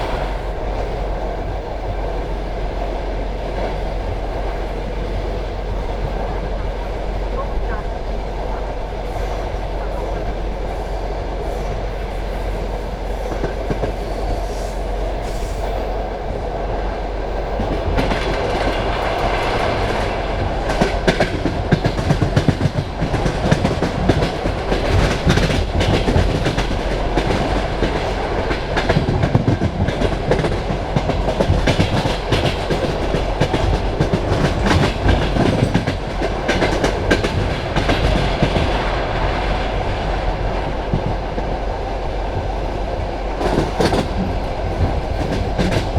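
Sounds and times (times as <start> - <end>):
train carriage rumbling on rails: 0.0 - 45.9.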